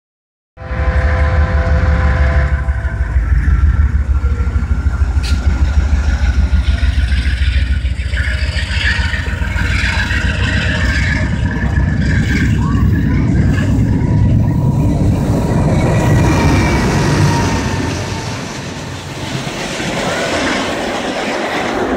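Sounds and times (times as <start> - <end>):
whining tones: 0.6 - 21.4
diesel locomotive rumbling: 0.6 - 21.9.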